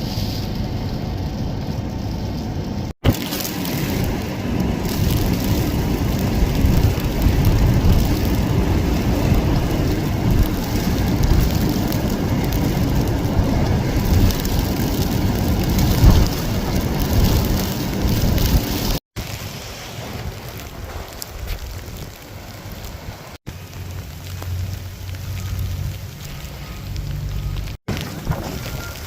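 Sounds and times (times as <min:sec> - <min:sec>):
wind buffeting microphone: 0:00.0 - 0:19.0, 0:24.2 - 0:29.0
rain: 0:00.0 - 0:29.0.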